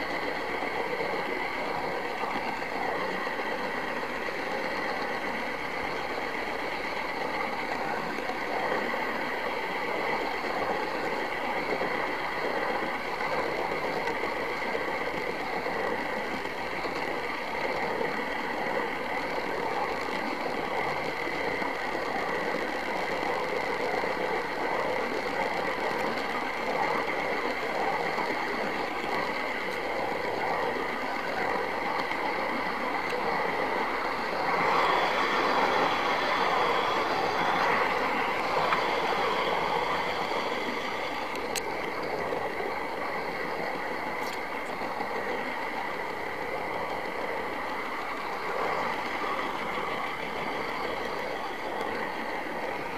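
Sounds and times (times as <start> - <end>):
model train whirring: 0.0 - 52.9.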